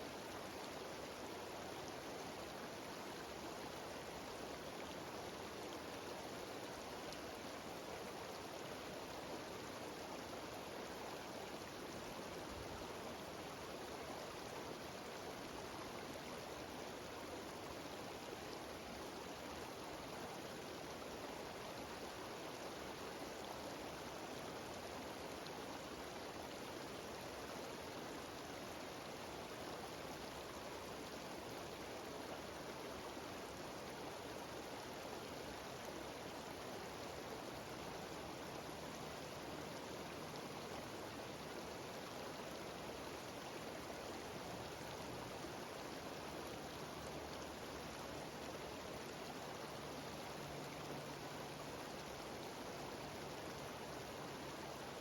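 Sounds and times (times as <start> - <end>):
waterfall rushing water: 0.0 - 55.0.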